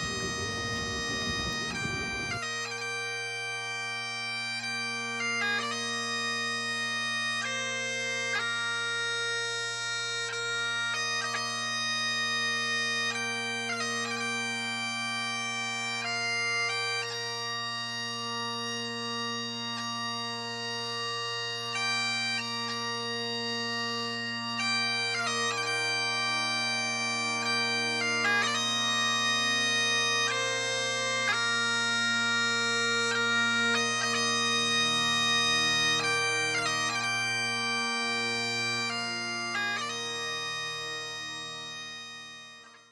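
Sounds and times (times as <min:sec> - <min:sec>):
bagpipes playing slow tune: 0:00.0 - 0:42.9.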